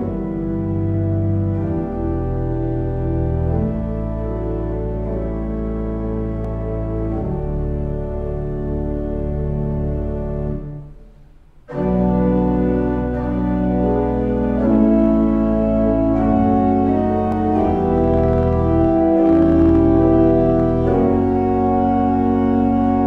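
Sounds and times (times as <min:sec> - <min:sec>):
church organ chords: 0:00.0 - 0:23.0.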